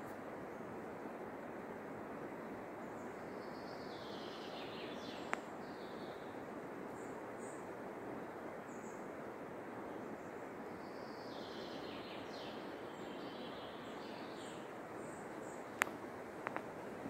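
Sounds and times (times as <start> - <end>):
steady background noise: 0.0 - 17.0
songbirds singing: 2.4 - 17.0.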